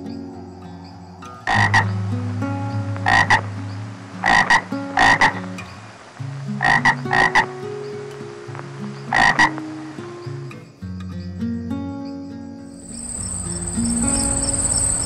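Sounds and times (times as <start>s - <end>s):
frog croaking: 0.0s - 10.6s, 12.7s - 15.0s
music of sustained low notes: 0.0s - 15.0s.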